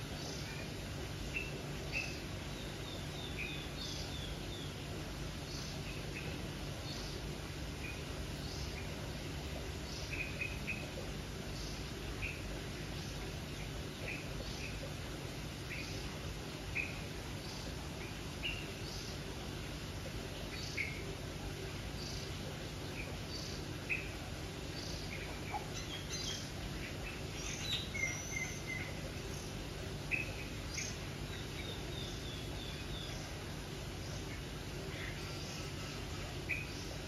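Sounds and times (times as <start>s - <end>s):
birds calling: 0.0s - 37.0s
steady low hum: 0.0s - 37.0s.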